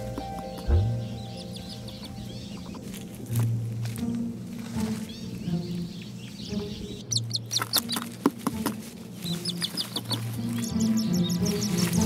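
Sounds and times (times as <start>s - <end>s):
background music: 0.0s - 12.0s
hornbills clucking calls: 0.0s - 12.0s.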